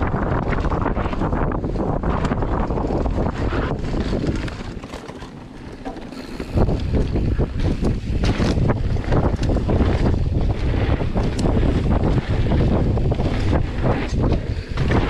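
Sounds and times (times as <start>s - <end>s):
bike rattling and knocking: 0.0s - 15.0s
wind buffeting microphone: 0.0s - 15.0s.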